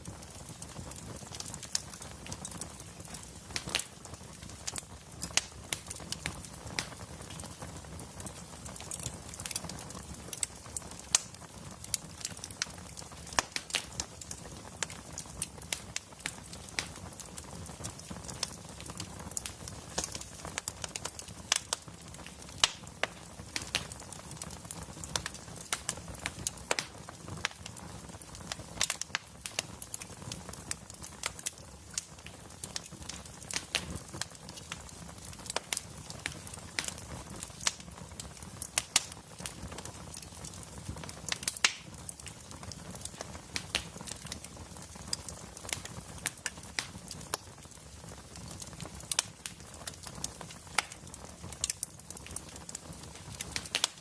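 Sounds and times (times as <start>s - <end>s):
low rumble of flames: 0.0s - 53.9s
wood fire crackling and popping: 0.0s - 54.0s.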